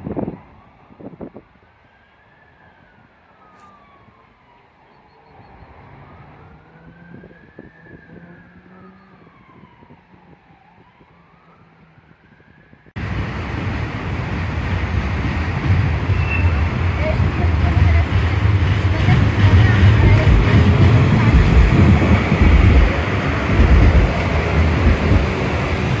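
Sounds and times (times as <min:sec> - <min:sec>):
faint siren wailing: 0:00.0 - 0:26.0
low traffic rumble: 0:00.0 - 0:26.0.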